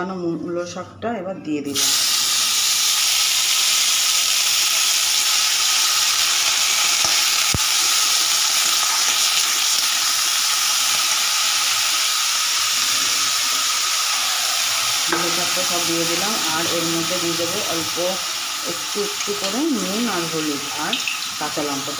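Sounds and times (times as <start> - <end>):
greens sizzling in hot oil: 1.8 - 21.9.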